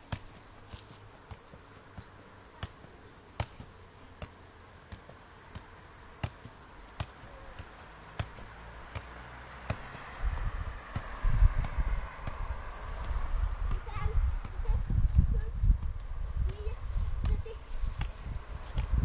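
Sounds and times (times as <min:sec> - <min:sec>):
football taps on foot: 0:00.1 - 0:19.0.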